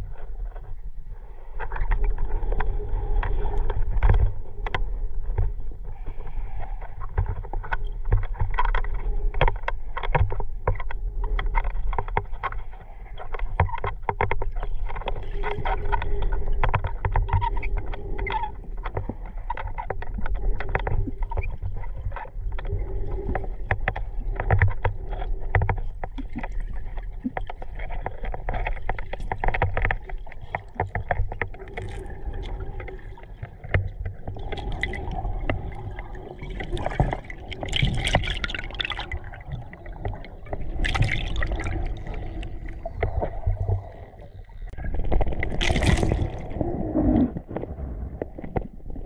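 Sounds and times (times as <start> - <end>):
underwater rumble of water: 0.0 - 49.0.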